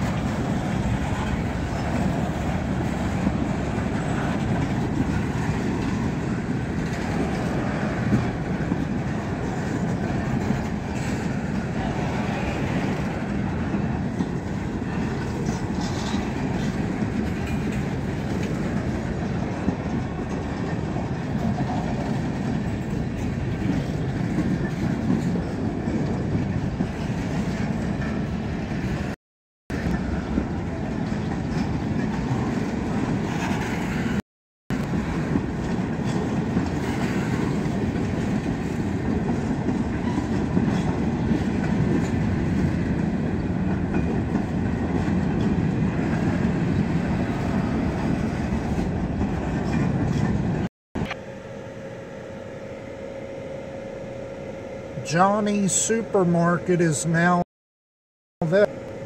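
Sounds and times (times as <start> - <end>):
freight train rumbling past: 0.0 - 57.4.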